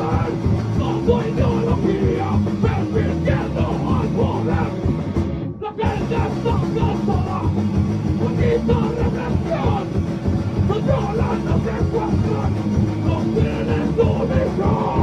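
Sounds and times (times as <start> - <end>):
ska-core band playing live: 0.0 - 15.0.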